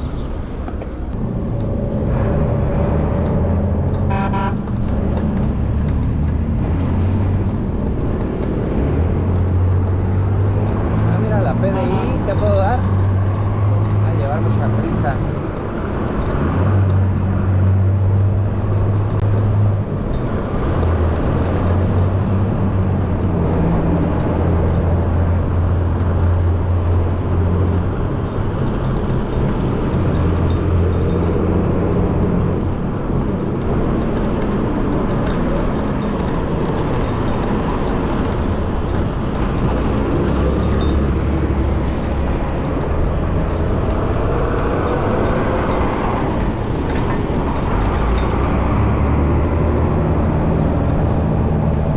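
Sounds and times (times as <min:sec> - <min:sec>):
motor vehicles humming: 0:00.0 - 0:51.9
wind and tyres rushing: 0:00.0 - 0:51.9.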